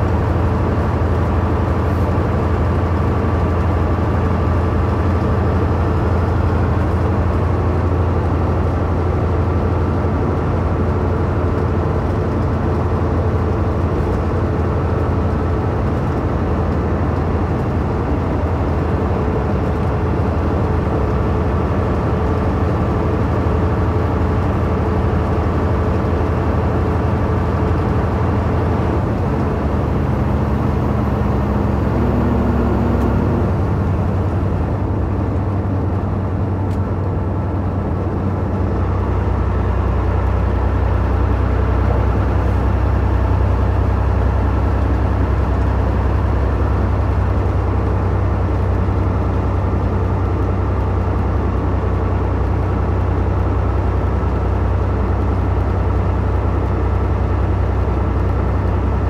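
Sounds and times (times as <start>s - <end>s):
truck engine drone: 0.0s - 59.0s
tyre and road noise: 0.0s - 59.0s.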